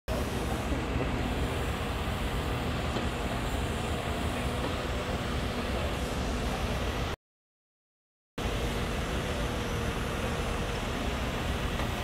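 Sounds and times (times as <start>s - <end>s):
excavator diesel engine running: 0.1s - 7.2s, 8.4s - 12.0s.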